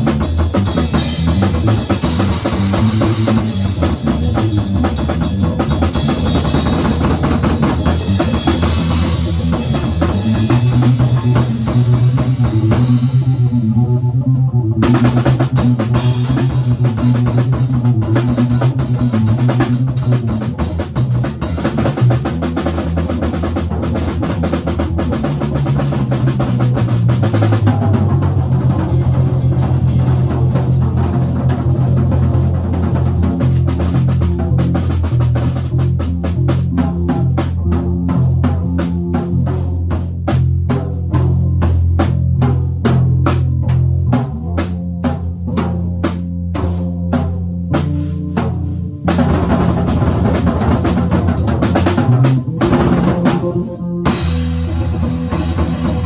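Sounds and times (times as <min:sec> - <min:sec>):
bass guitar low notes: 0:00.0 - 0:56.0
drum kit playing: 0:00.0 - 0:56.0.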